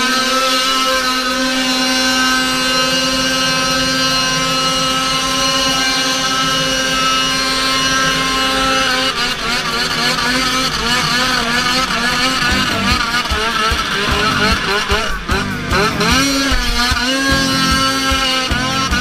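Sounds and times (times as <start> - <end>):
snowmobile engine at high revs: 0.0 - 19.0.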